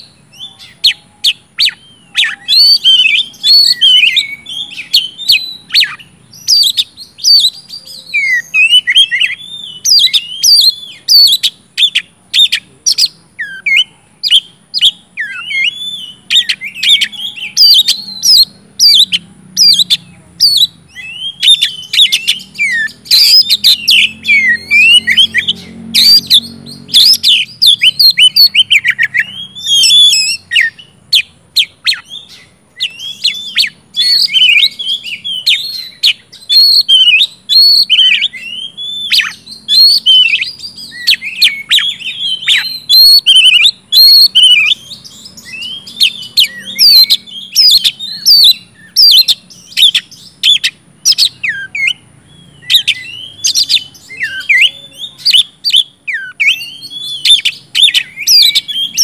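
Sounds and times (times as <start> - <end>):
songbird singing loudly: 0.0 - 59.0.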